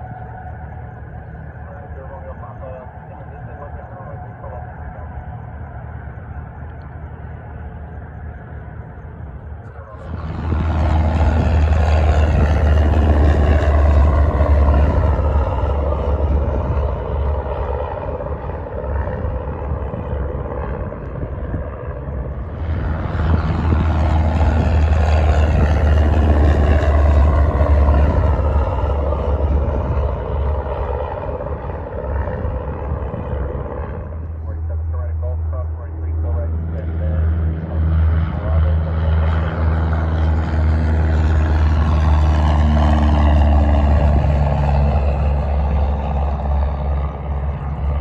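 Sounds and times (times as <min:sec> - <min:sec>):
aircraft passing by: 0:00.0 - 0:48.0
steady low rumble: 0:00.0 - 0:48.0.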